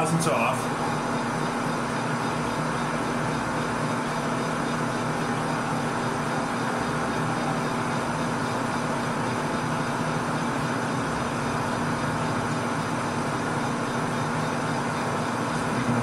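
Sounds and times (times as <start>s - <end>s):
metal lathe running: 0.0s - 16.0s
steady whining tones: 0.0s - 16.0s.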